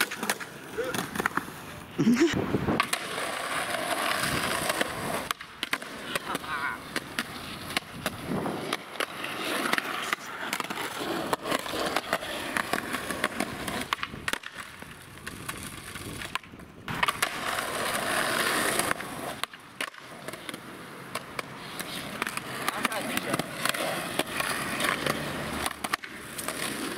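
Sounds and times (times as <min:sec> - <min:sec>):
skateboard popping and landing: 0:00.0 - 0:26.9
skateboard wheels rolling on concrete: 0:00.0 - 0:26.9.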